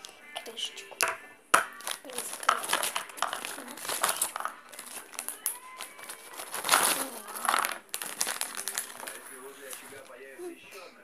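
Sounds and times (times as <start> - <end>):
plastic packet crinkling: 0.0 - 10.2.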